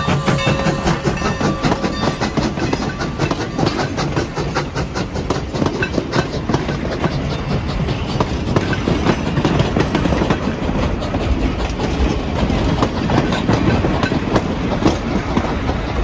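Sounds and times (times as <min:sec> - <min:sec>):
steam train rolling past: 0:00.0 - 0:16.0
wheels clanking over rail joints: 0:00.0 - 0:16.0.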